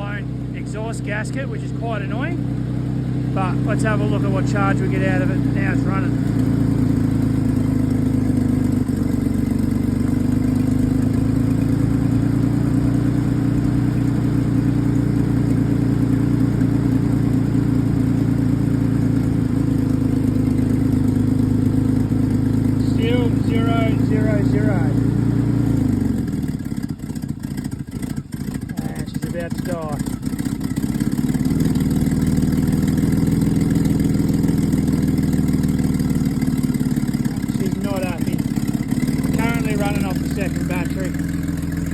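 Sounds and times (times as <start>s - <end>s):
car engine idling: 0.0s - 41.9s
exhaust leak: 0.0s - 41.9s.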